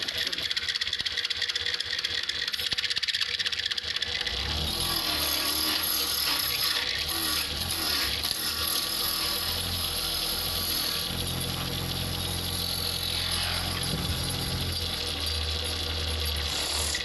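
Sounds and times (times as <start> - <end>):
chisel cutting spinning wood: 0.0 - 17.0
lathe motor hum: 0.0 - 17.0.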